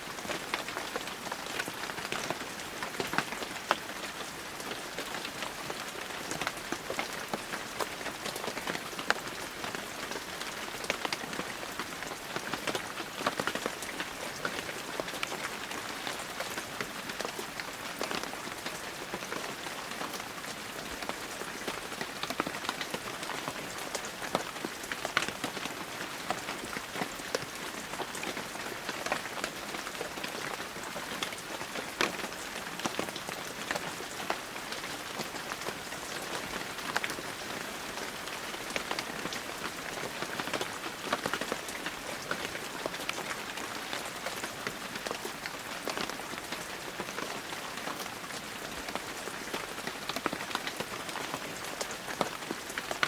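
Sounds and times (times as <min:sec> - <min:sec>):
heavy rain falling: 0:00.0 - 0:53.0
raindrops ticking on surfaces: 0:00.0 - 0:53.0.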